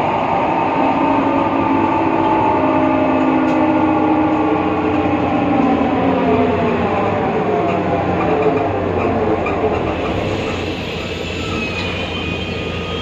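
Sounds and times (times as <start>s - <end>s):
bus gear whine: 0.0s - 13.0s
diesel engine: 0.0s - 13.0s
road noise: 0.0s - 13.0s.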